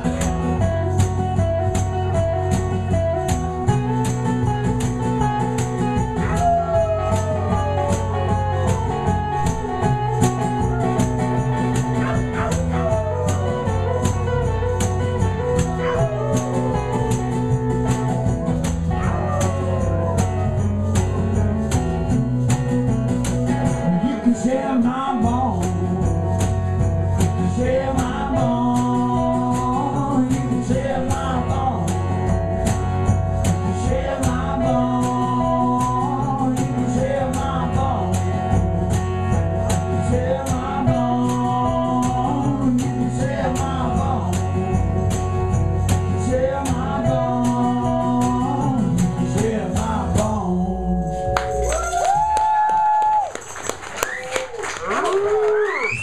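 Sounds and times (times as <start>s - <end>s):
acoustic band playing: 0.0s - 56.0s.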